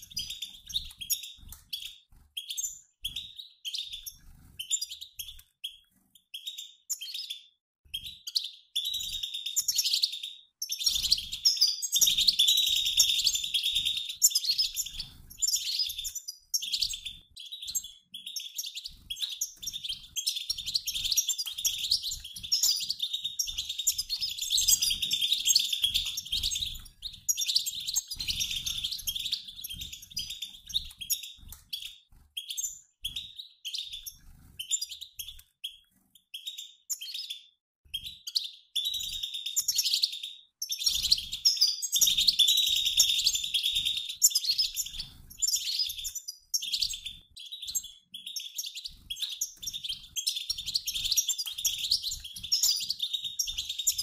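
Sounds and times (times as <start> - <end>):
finches twittering and chattering: 0.0 - 54.0.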